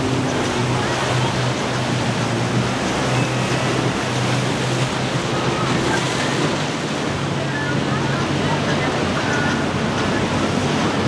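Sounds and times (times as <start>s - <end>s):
boat engines droning: 0.0s - 11.0s
ocean surf: 0.0s - 11.0s.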